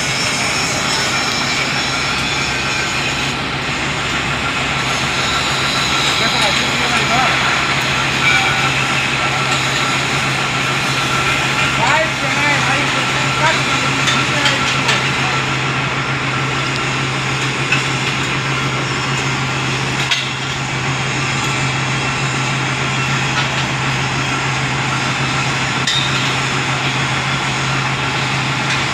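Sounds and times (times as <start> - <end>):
low machine hum: 0.0 - 28.9.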